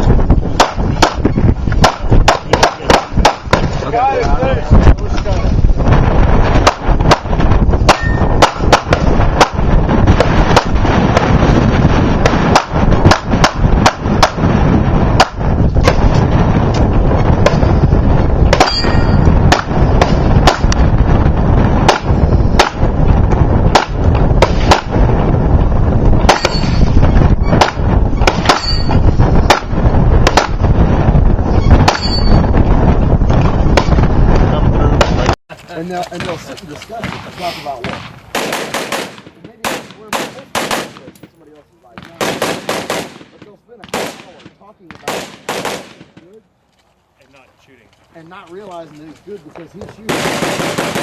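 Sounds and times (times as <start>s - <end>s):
loud gunshots: 0.0s - 4.1s, 5.9s - 16.7s, 17.3s - 32.7s, 33.4s - 35.4s, 37.0s - 41.2s, 41.9s - 46.3s, 50.0s - 51.0s.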